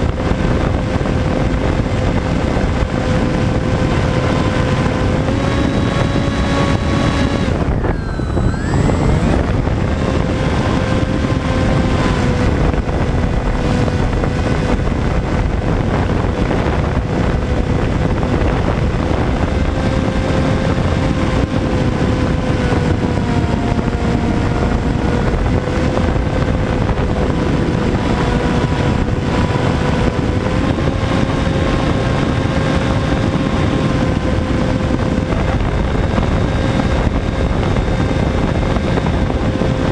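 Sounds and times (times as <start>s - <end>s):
model plane motor whine: 0.0s - 39.9s
wind rushing: 0.0s - 39.9s.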